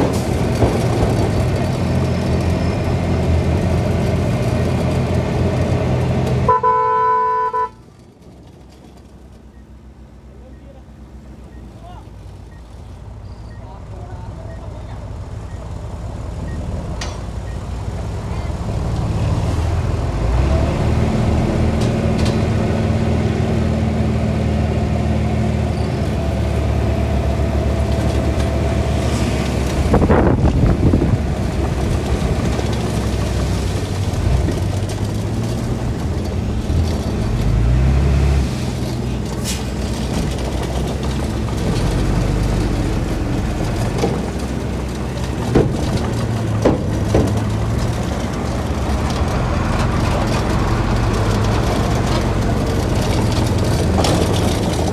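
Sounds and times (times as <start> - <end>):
diesel engines of machinery running: 0.0 - 6.6, 7.7 - 54.9.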